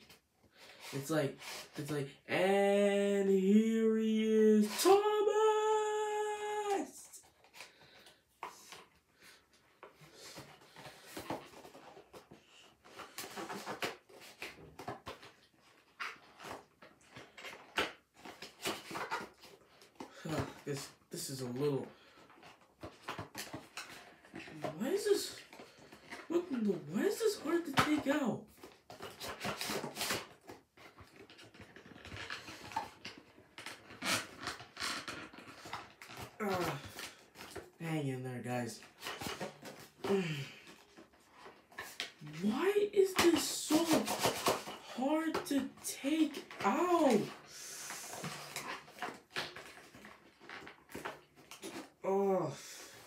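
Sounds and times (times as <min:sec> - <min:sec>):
cardboard packaging rustling: 0:02.5 - 0:37.8, 0:38.4 - 0:53.0.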